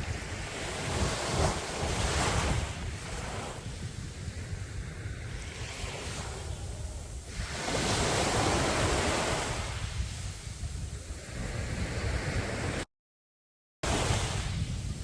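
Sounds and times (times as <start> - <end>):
sea waves breaking: 0.0 - 12.8, 13.8 - 15.0
wind rumbling on microphone: 0.0 - 12.9, 13.8 - 15.0.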